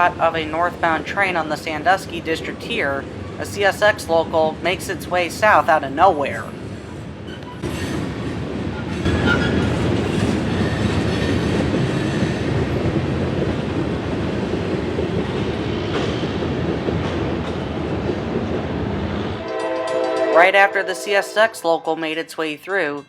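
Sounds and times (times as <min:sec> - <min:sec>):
freight train wheels rumbling: 0:00.0 - 0:21.8.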